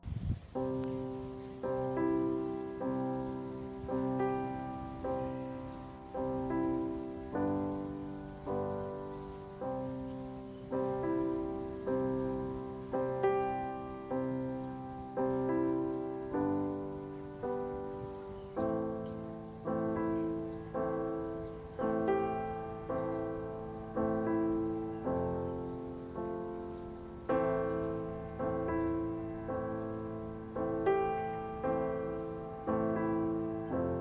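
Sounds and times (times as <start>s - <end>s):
slow solo piano: 0.0s - 34.0s.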